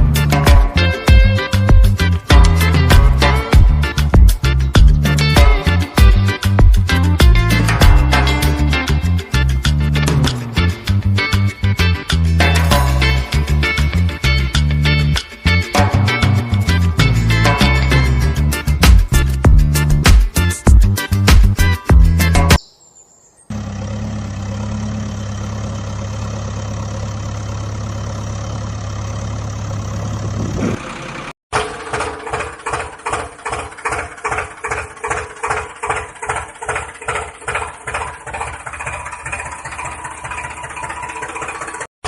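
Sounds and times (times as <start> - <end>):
engine chugging: 0.0 - 22.6, 23.5 - 41.9
tractor engine running: 0.0 - 22.6, 23.5 - 41.9.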